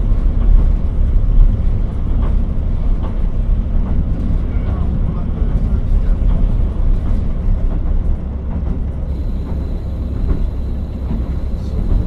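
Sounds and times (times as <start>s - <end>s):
diesel railcar rumbling on rails: 0.0s - 12.0s.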